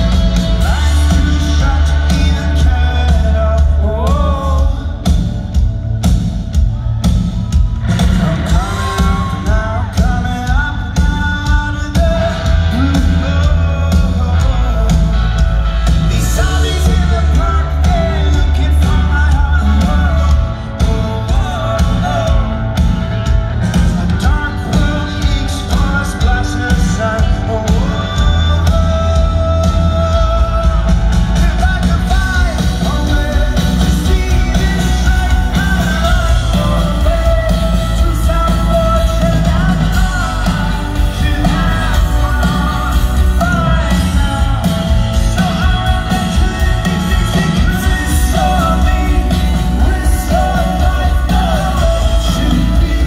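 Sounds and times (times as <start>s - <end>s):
man singing: 0.0s - 5.7s, 7.8s - 53.0s
rock band playing live: 0.0s - 53.0s.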